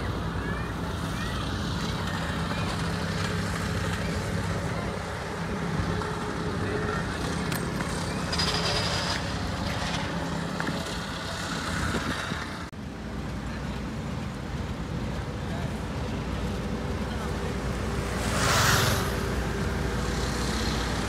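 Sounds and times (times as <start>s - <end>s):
paving machinery engines running: 0.0s - 21.0s
steady engine hum: 0.0s - 21.0s.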